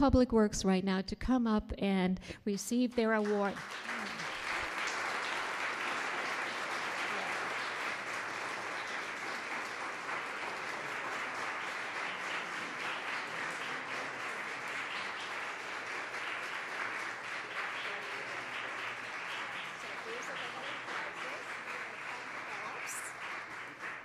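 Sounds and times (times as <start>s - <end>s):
audience applauding: 3.2s - 24.0s.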